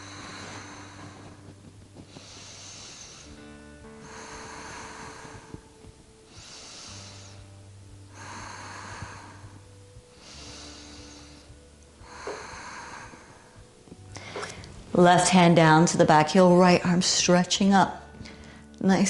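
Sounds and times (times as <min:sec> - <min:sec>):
person breathing slowly: 0:00.0 - 0:14.8, 0:18.2 - 0:18.8
faint background music: 0:00.0 - 0:19.0.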